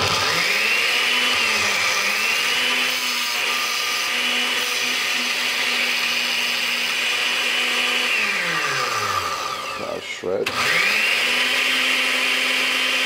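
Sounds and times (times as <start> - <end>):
blender motor running: 0.0 - 13.0.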